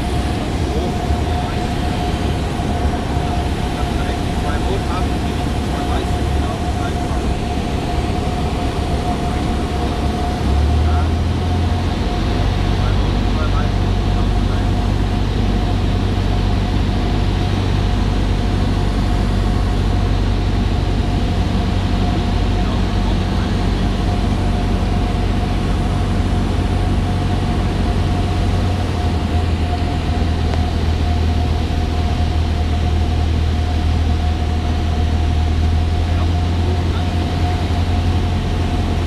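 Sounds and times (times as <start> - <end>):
airplane propeller engine droning: 0.0 - 39.0
thin whine: 0.0 - 39.0.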